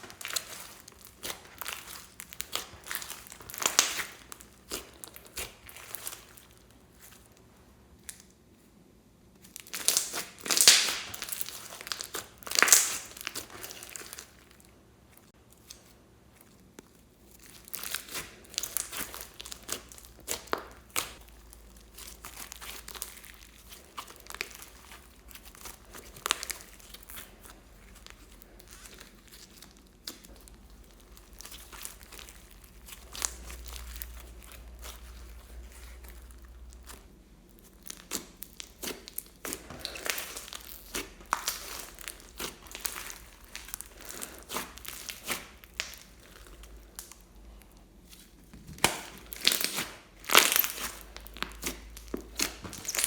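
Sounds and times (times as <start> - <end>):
hands squishing crackling slime: 0.0 - 8.4, 9.4 - 53.0.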